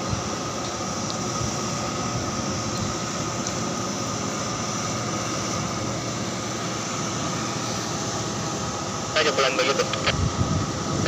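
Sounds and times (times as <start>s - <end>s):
crane machinery droning: 0.0s - 11.0s
thin constant whine: 0.0s - 11.0s.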